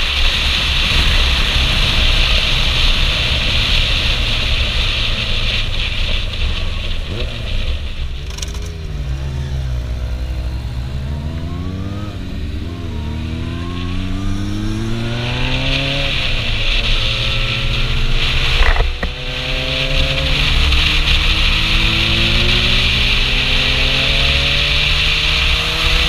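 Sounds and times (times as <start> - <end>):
motorcycle engine accelerating: 0.0 - 26.0
wind noise on microphone: 0.0 - 26.0.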